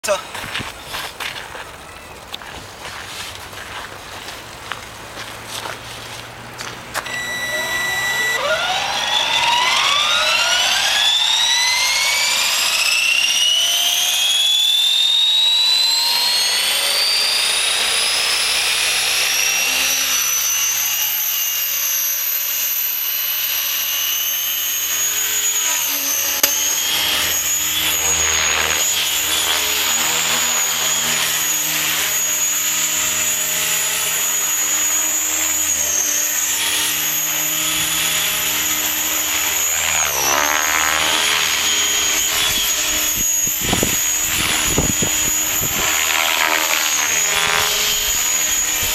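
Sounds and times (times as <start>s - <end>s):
rc helicopter rotor whine: 6.3s - 48.9s.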